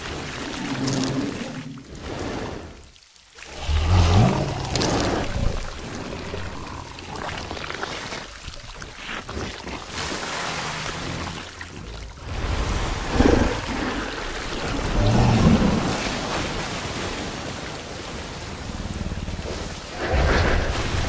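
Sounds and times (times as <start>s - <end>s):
rushing water-like noise: 0.0s - 21.0s.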